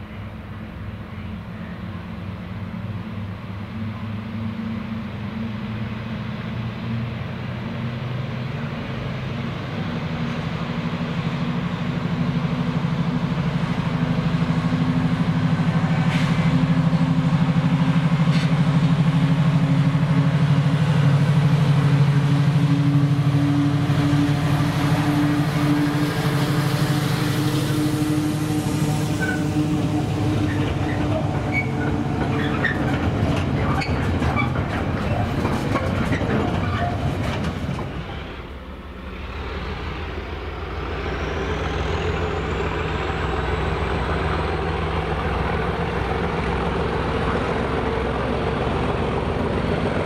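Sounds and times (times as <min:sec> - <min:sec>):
diesel locomotive engine: 0:00.0 - 0:50.0.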